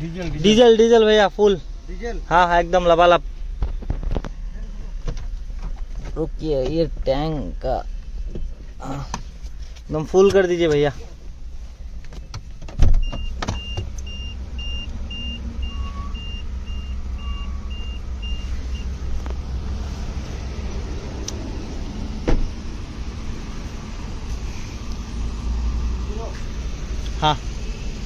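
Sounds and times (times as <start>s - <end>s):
fuel pump low rumble: 0.0s - 28.0s.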